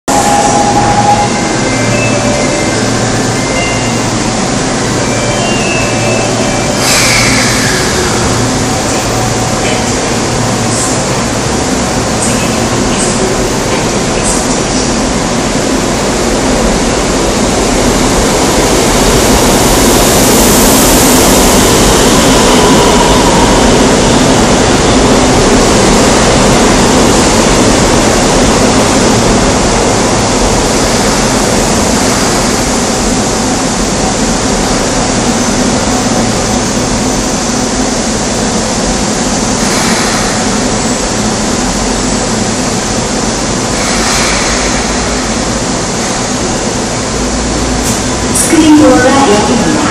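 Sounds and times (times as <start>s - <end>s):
subway train pulling into station: 0.1s - 49.9s.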